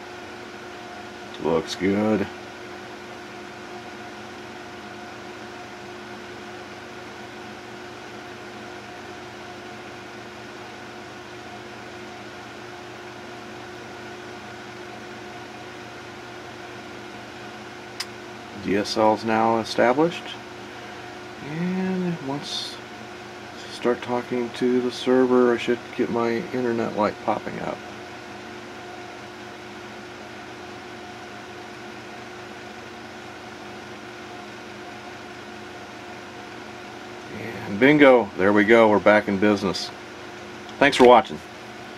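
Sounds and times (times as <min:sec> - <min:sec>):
electronic equipment hum and hiss: 0:00.0 - 0:41.9.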